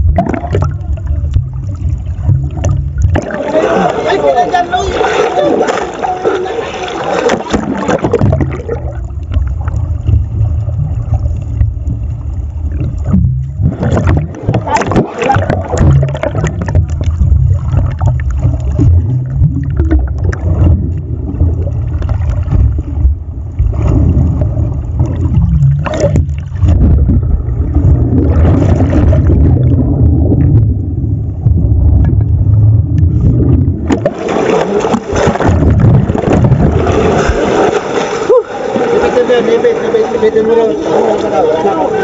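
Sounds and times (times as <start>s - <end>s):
churning surface water splashing: 0.0s - 11.8s, 12.6s - 30.7s, 31.6s - 42.0s
underwater rumble and gurgling: 0.0s - 42.0s.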